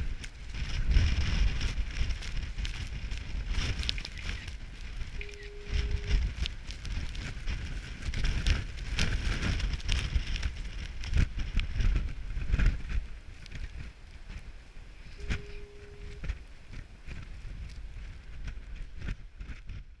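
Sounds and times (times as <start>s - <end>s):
crackling ticks: 0.0s - 19.8s
wind gusting across microphone: 0.0s - 20.0s.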